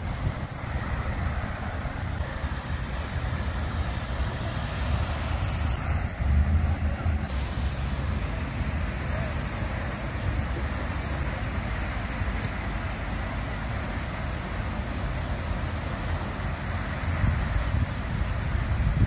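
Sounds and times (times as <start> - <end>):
water fountain splashing: 0.0 - 19.0
wind buffeting microphone: 0.0 - 19.0.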